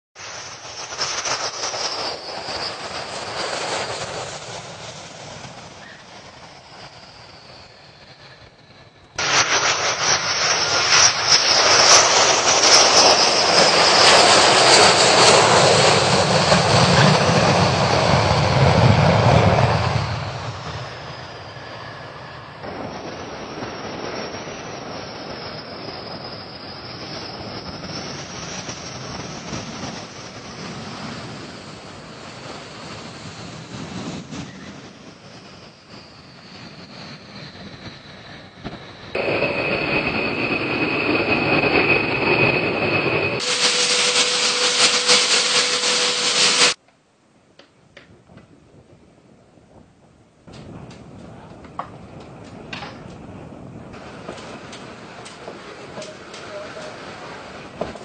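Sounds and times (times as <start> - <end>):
high jet engine whine: 0.2 - 46.8, 47.6 - 58.0
jet engines roaring: 0.2 - 46.8, 48.0 - 58.0.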